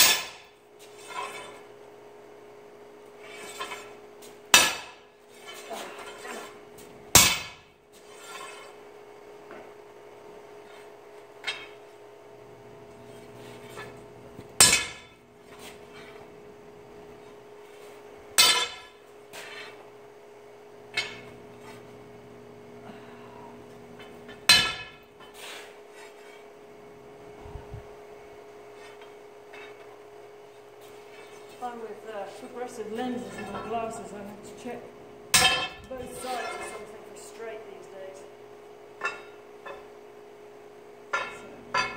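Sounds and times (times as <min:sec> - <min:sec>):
forge hum: 0:00.0 - 0:41.9.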